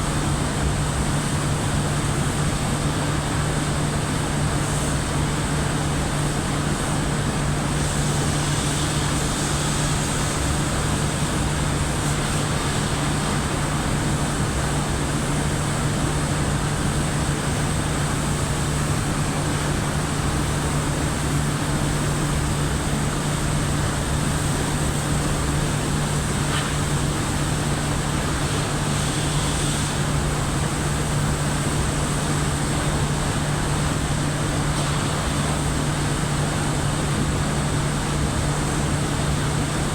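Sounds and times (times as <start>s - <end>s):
machinery hum and hiss: 0.0s - 39.9s.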